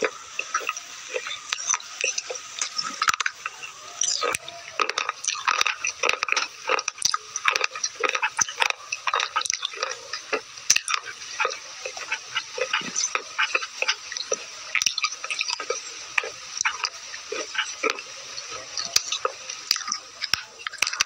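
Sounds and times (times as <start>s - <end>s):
crunching and chewing: 0.0s - 21.0s.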